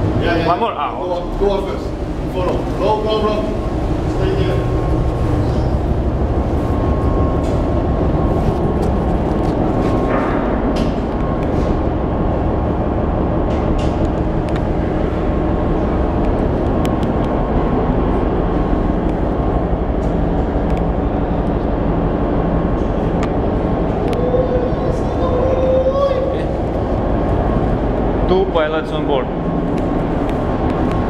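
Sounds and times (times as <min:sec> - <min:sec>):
ship machinery drone: 0:00.0 - 0:31.0.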